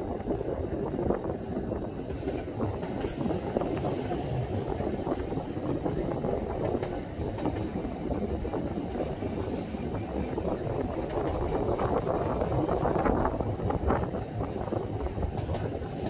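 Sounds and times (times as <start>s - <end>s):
tram running on track: 0.0s - 16.0s
wind buffeting microphone: 0.0s - 16.0s.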